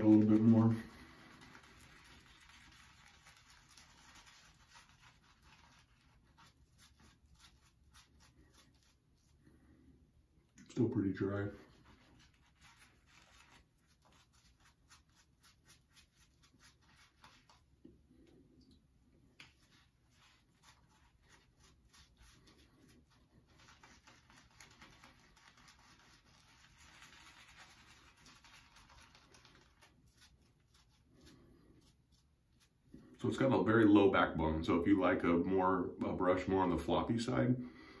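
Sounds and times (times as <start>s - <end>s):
shaving brush scrubbing lather: 0.0s - 9.4s, 10.7s - 17.8s, 19.4s - 33.6s.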